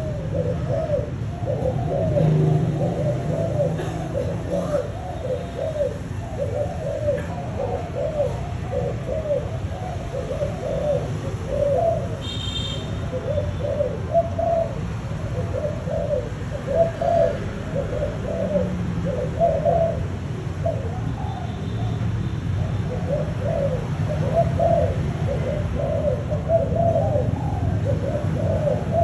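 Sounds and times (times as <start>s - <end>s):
dove cooing rapidly: 0.0s - 29.0s.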